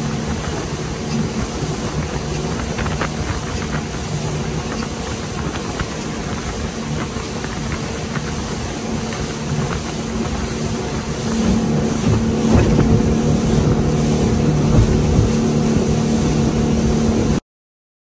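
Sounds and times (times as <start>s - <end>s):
motorboat engine running: 0.0s - 17.4s.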